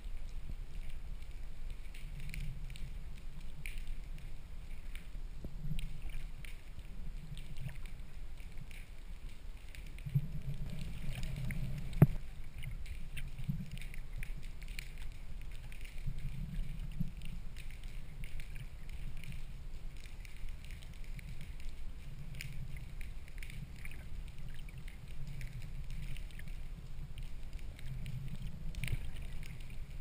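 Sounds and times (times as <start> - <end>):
faint clicks: 0.0 - 30.0
low underwater rumble: 0.0 - 30.0.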